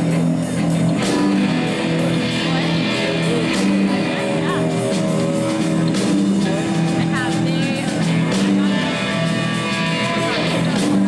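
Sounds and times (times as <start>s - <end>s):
drum kit: 0.0s - 11.0s
electric guitars: 0.0s - 11.0s.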